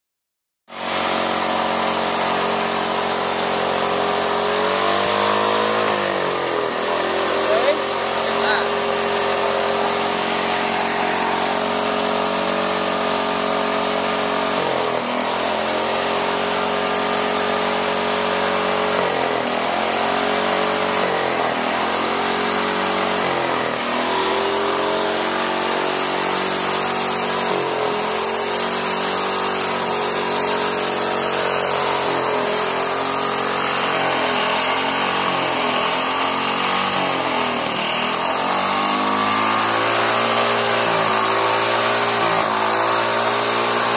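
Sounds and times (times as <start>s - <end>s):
lawn mower engine running: 0.7s - 43.9s.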